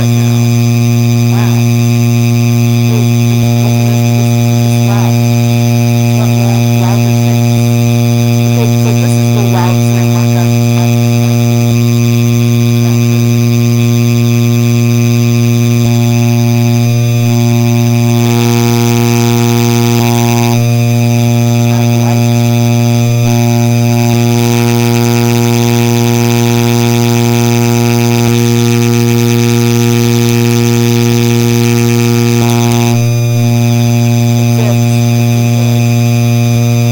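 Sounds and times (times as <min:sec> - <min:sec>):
ceiling fan electrical buzz: 0:00.0 - 0:36.9.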